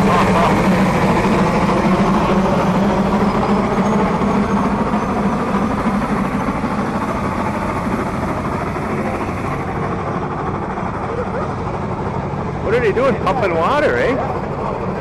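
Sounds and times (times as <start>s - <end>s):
steam traction engine running: 0.0s - 15.0s.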